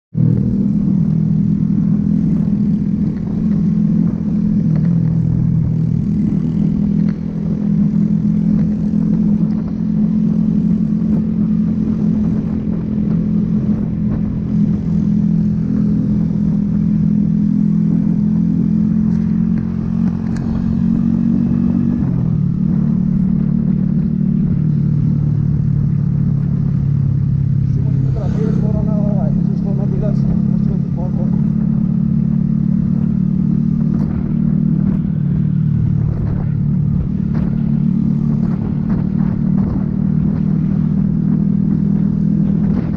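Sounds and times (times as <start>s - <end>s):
motorcycle engine running: 0.1s - 42.9s
rushing wind: 0.1s - 42.9s.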